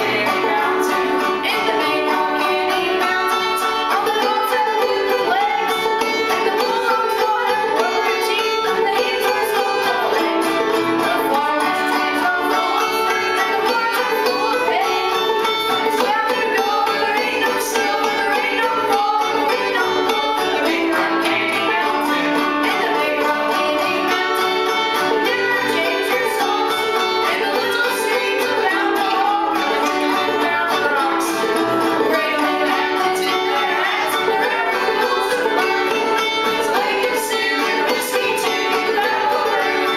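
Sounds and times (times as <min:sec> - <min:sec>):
acoustic guitar strumming: 0:00.0 - 0:39.9
clawhammer banjo: 0:00.0 - 0:39.9.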